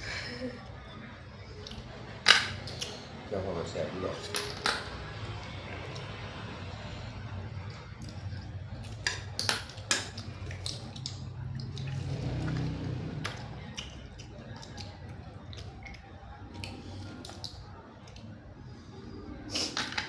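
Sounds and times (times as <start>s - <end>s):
low steady murmur: 0.0s - 20.0s.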